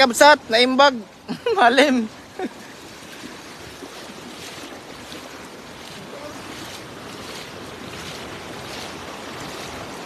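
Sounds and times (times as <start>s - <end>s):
river water splashing: 0.0s - 10.0s
steady rushing water: 0.0s - 10.0s.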